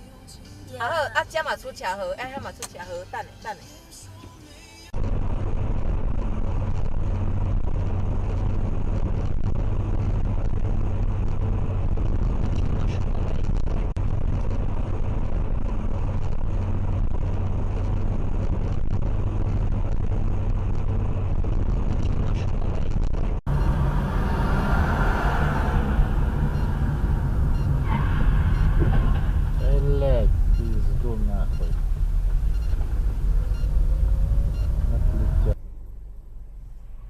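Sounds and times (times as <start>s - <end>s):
road noise: 0.0s - 37.0s
vehicle engine rumble: 0.0s - 37.0s.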